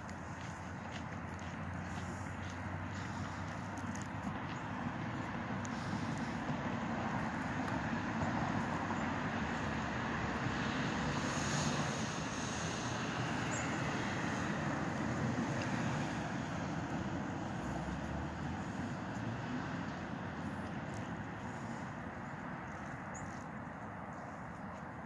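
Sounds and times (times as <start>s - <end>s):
distant engine rumble: 0.0s - 25.0s.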